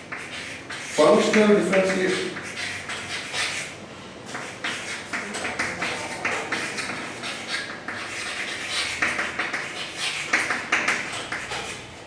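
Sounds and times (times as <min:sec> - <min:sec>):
pen scratching on paper: 0:00.1 - 0:03.7, 0:04.4 - 0:11.7.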